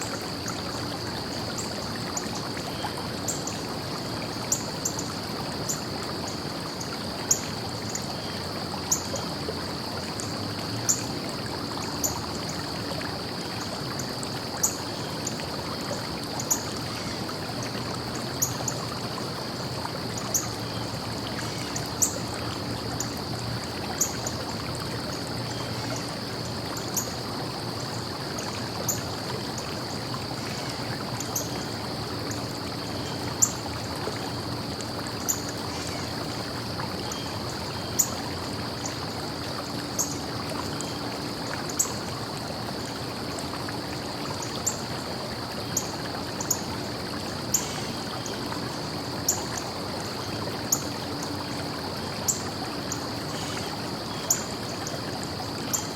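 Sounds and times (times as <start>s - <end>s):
stream trickling: 0.0s - 55.9s.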